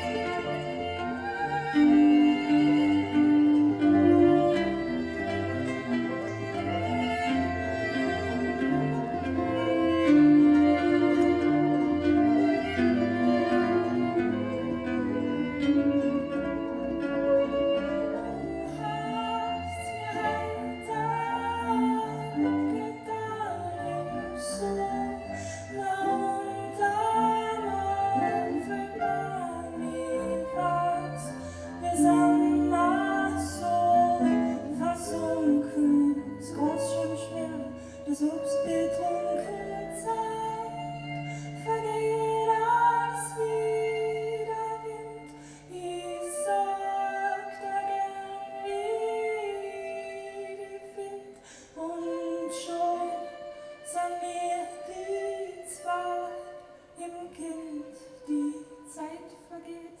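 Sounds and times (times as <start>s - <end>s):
acoustic band playing: 0.0s - 50.7s
woman singing: 0.0s - 60.0s.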